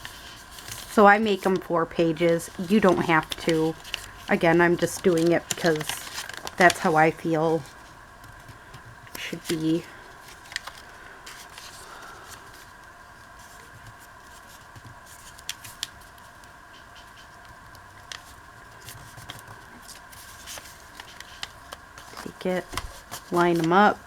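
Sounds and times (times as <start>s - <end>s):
faint steady hum: 0.0s - 24.0s
paper rustling and shuffling: 0.0s - 24.0s.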